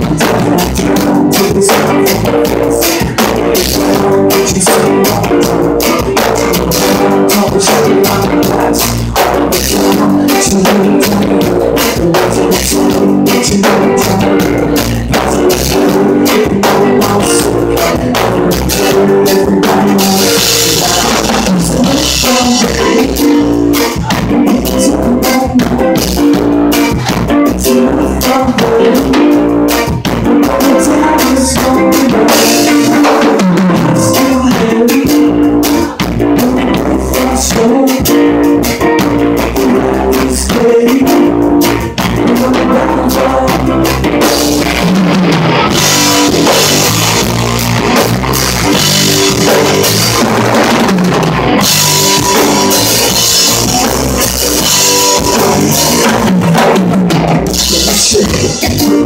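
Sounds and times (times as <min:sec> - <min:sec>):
drum kit: 0:00.0 - 0:59.0
electric bass line: 0:00.0 - 0:59.0
guitar: 0:00.0 - 0:59.0
live band playing: 0:00.0 - 0:59.0.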